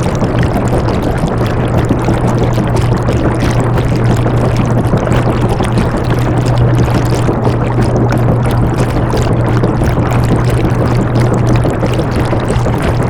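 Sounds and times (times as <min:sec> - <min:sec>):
washing machine motor hum: 0:00.0 - 0:13.0
water rushing in drum: 0:00.0 - 0:13.0.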